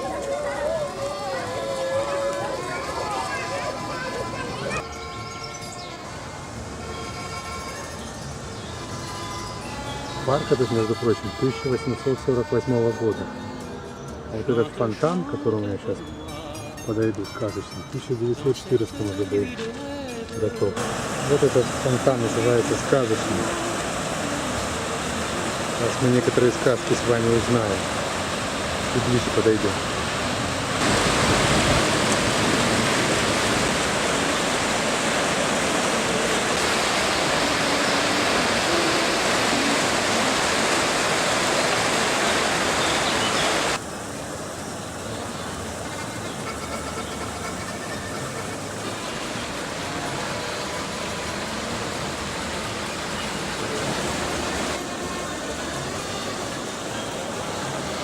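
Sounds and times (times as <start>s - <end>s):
fountain water splashing: 0.0s - 13.2s, 20.6s - 58.0s.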